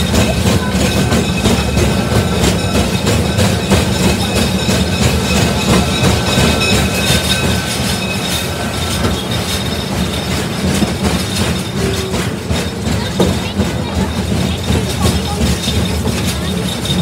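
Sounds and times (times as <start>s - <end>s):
high wheel squeal: 0.0s - 17.0s
train wheels rumbling and clattering: 0.0s - 17.0s.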